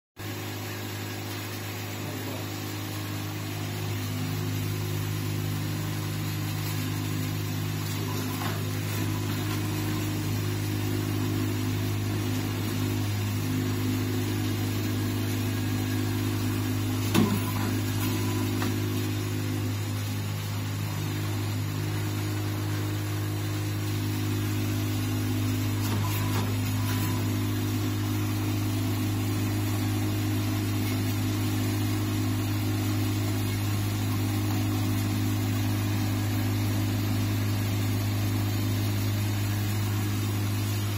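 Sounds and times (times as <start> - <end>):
machine humming low drone: 0.2 - 40.9.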